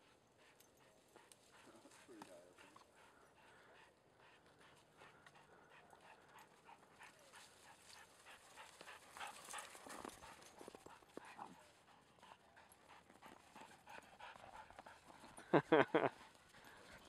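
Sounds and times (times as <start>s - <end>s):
soft dog sounds: 0.0s - 17.0s.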